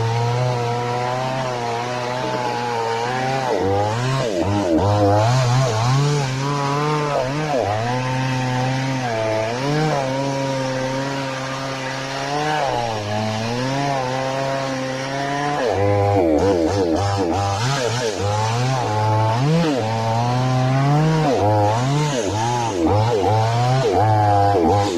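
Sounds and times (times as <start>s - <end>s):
mini chainsaw engine running: 0.0s - 24.9s.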